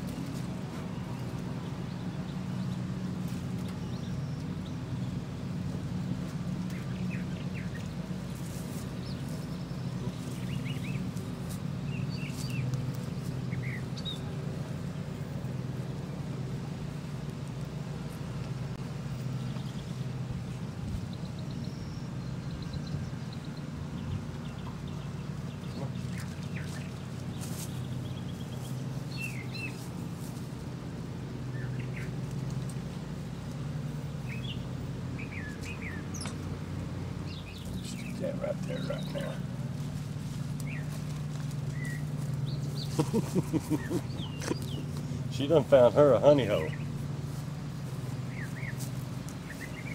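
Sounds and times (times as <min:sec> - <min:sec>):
birds chirping: 0:00.0 - 0:49.9
low motor drone: 0:00.0 - 0:49.9.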